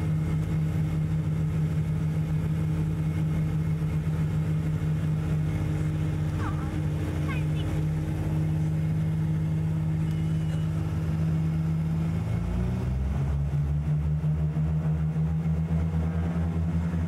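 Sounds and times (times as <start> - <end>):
propeller plane engines from cabin: 0.0 - 17.0.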